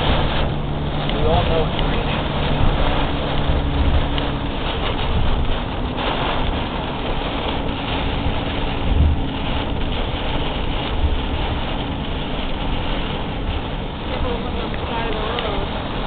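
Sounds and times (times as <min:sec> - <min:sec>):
rain hissing: 0:00.0 - 0:16.0
road and engine rumble: 0:00.0 - 0:16.0.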